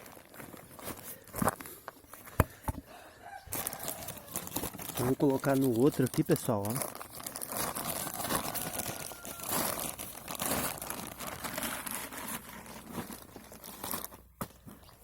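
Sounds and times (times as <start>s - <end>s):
plastic bag crinkling: 0.0s - 1.8s, 3.5s - 15.0s.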